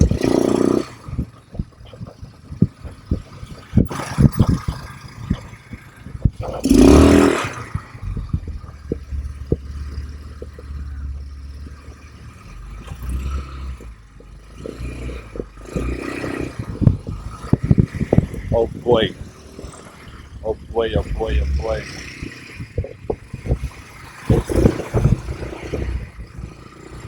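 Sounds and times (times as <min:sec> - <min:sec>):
knocks and clattering from bumps: 0:00.0 - 0:21.0, 0:21.8 - 0:27.0
atv engine running: 0:00.0 - 0:27.0.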